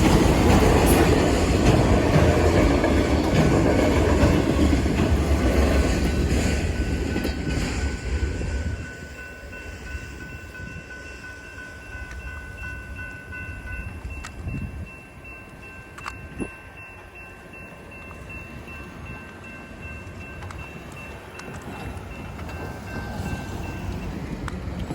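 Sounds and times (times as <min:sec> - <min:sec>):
crossing warning bell: 0:00.0 - 0:24.9
freight train rumble: 0:00.0 - 0:24.9.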